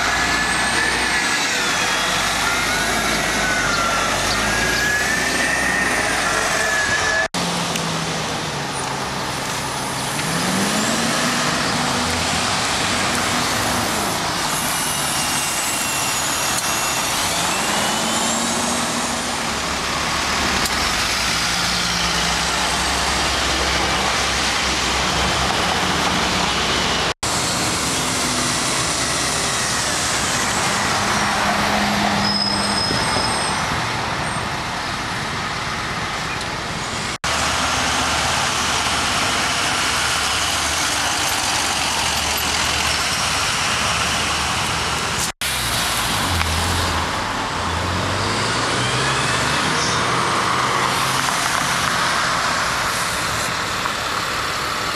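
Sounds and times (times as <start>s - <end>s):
buses and cars driving past: 0.0s - 54.9s.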